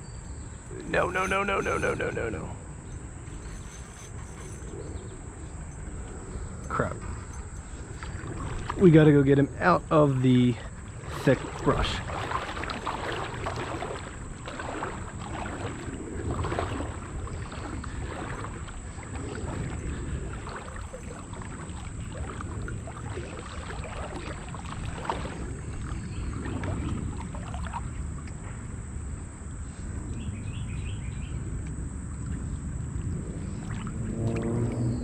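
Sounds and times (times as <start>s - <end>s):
water sloshing and splashing: 0.4s - 30.2s, 31.5s - 35.0s.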